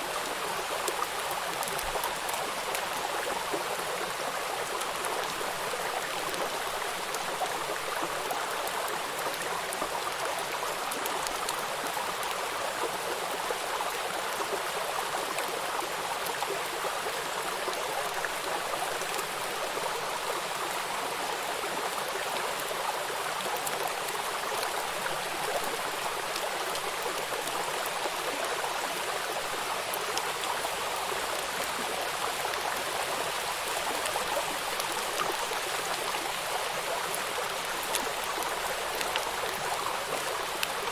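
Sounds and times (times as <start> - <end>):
rain falling on water: 0.0 - 40.9.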